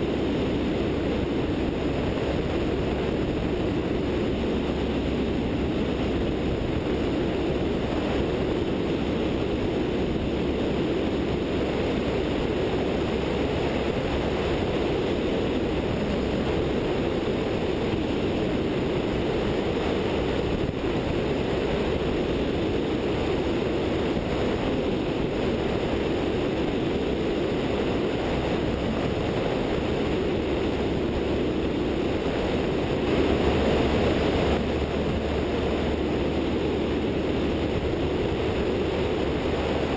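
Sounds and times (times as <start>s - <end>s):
light aircraft engine drone: 0.0s - 39.9s
wind rushing: 0.0s - 39.9s.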